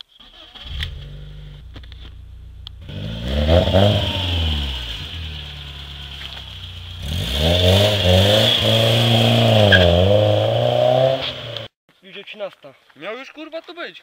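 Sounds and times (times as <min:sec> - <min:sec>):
car engine revving: 0:00.3 - 0:11.7.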